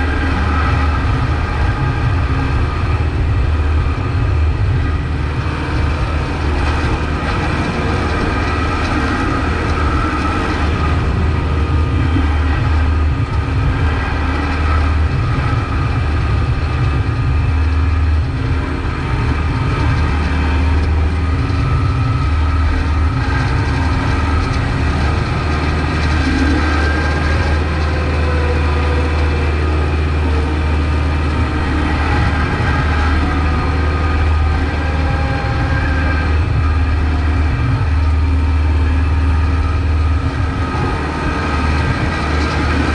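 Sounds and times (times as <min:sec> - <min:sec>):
tractor diesel engine droning: 0:00.0 - 0:42.9.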